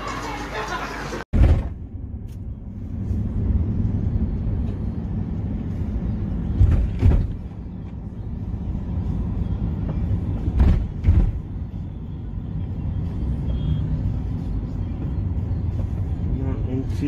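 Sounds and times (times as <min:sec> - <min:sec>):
heavy road traffic rumble: 0:00.0 - 0:17.0.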